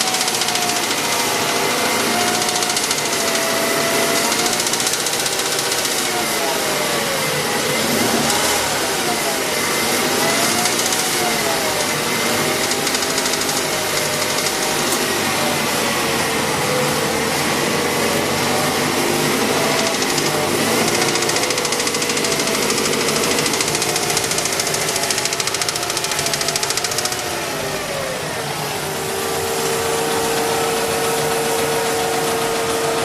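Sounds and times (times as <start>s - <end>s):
car engine knocking: 0.0s - 27.6s, 28.6s - 33.0s.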